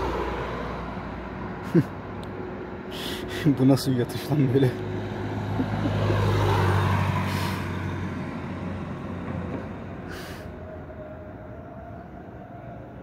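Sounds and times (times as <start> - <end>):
heavy vehicle engine passing: 0.0 - 11.0.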